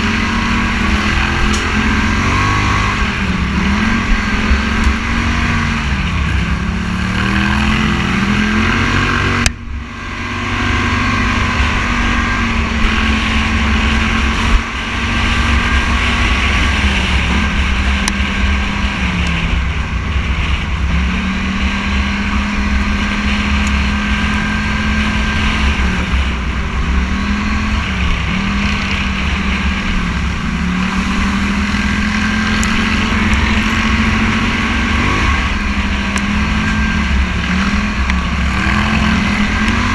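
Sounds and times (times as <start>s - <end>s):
off-road vehicle engine revving: 0.0s - 39.9s
wind rumble on microphone: 0.0s - 39.9s.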